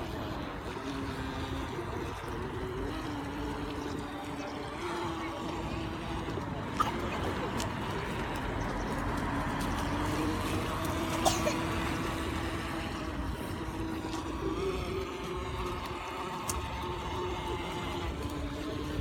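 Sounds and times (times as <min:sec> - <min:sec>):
model boat motor whining: 0:00.0 - 0:19.0.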